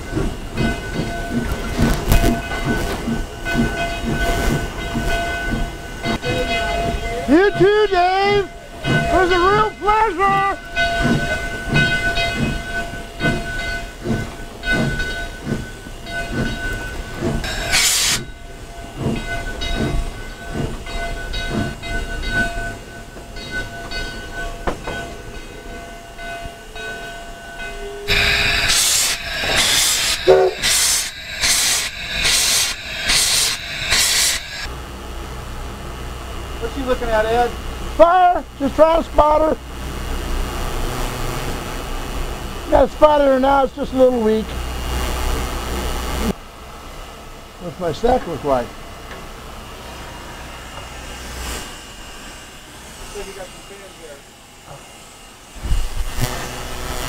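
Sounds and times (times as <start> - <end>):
steam hissing: 0.0 - 46.4, 47.0 - 57.0
steady high whine: 0.0 - 57.0
steam locomotive exhaust chuffs: 0.0 - 57.0.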